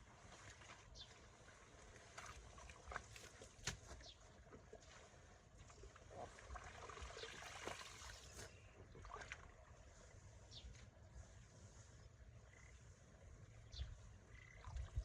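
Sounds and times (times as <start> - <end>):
water trickling and splashing: 0.0 - 12.4.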